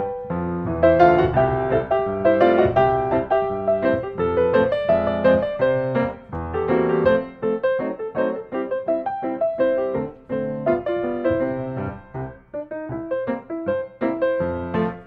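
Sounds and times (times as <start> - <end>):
piano music with chords: 0.0 - 15.0.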